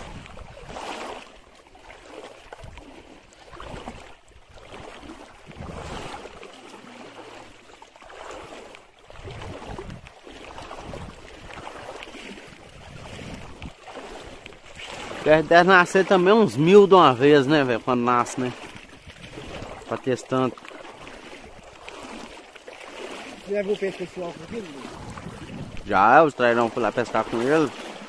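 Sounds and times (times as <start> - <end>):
water sloshing from wading: 0.0 - 28.0.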